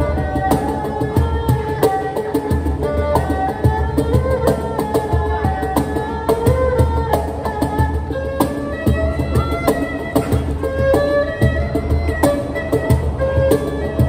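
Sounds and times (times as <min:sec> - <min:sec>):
cajon beat: 0:00.0 - 0:14.0
erhu bowing melody: 0:00.0 - 0:14.0.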